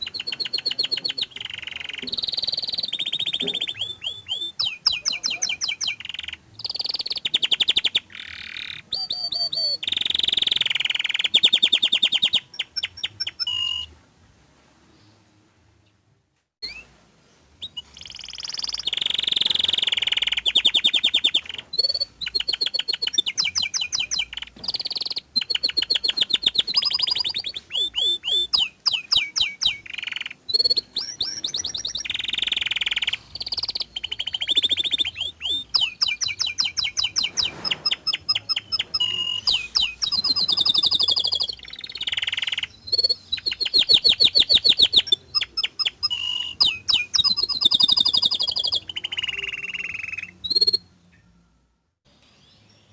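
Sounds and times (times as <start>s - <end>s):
canary singing trills: 0.0s - 13.9s, 16.6s - 16.9s, 17.6s - 51.4s.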